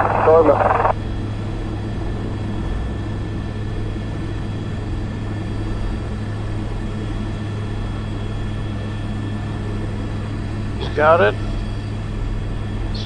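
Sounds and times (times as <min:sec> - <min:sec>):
helicopter turbine and rotor drone: 0:00.0 - 0:13.0.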